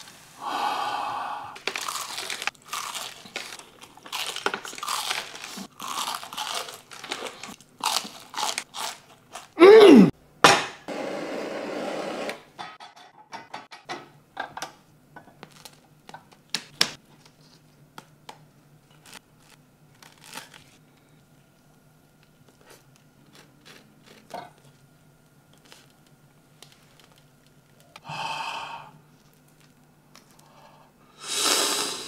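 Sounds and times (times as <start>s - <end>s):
faint steady hum: 0.0s - 10.4s, 14.0s - 32.0s.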